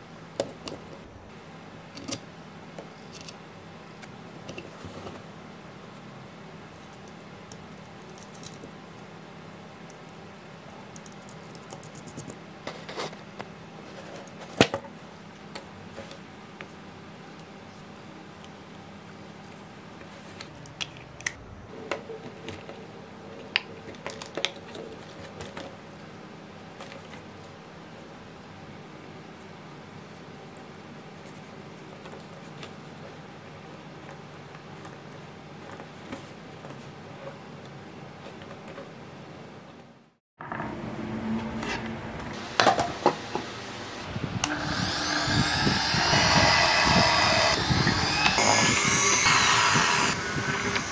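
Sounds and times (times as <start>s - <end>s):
background hiss and hum: 0.0s - 50.9s.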